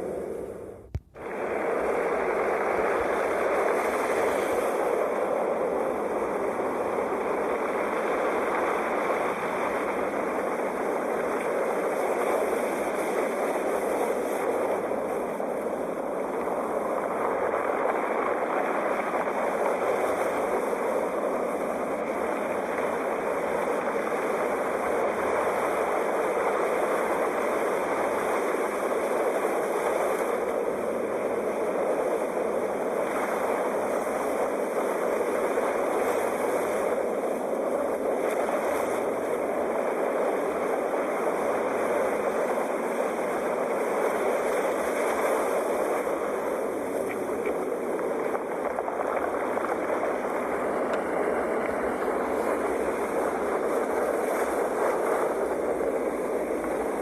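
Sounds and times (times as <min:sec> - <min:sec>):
sea waves washing onto shore: 0:00.9 - 0:57.0.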